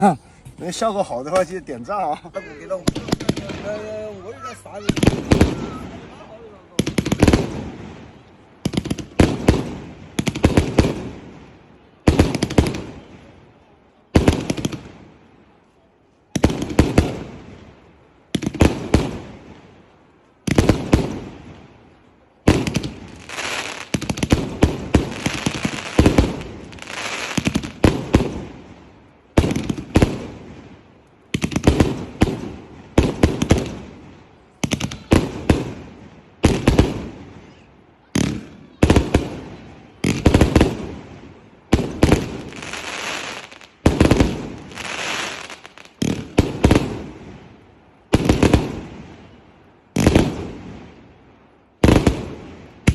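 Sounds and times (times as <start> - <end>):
firework crackle: 0.6 - 13.4, 14.1 - 52.9.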